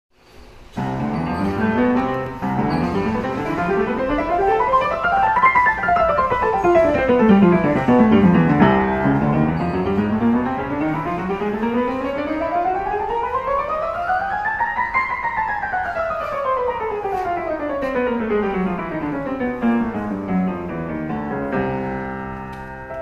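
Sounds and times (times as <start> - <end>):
upright piano playing: 0.7 - 23.0.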